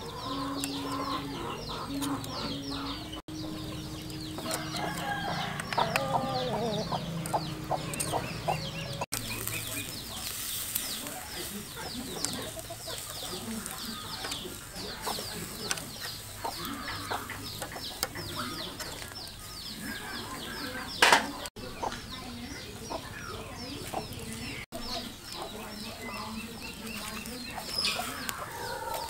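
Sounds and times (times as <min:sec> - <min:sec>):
chicks cheeping: 0:00.0 - 0:29.0.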